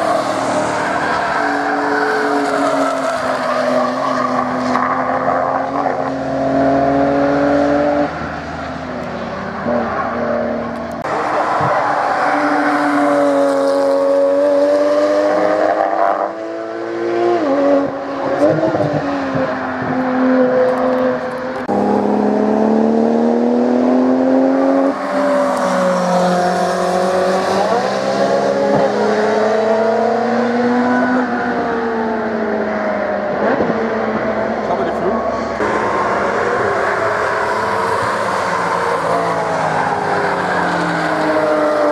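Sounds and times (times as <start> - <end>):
sports car engines passing: 0.0 - 41.9.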